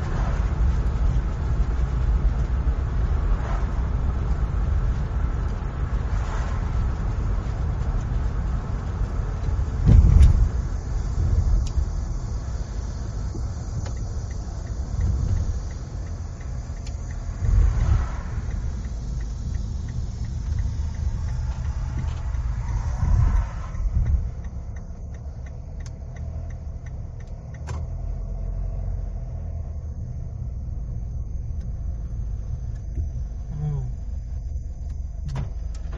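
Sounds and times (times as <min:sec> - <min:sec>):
car engine and tyres rumbling: 0:00.0 - 0:35.9.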